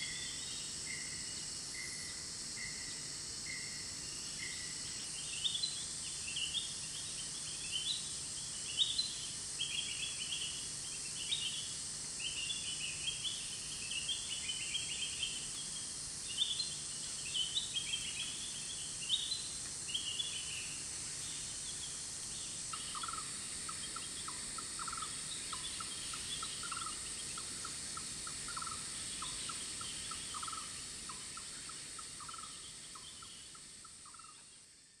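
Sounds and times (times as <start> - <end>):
high-pitched insect drone: 0.0 - 35.0.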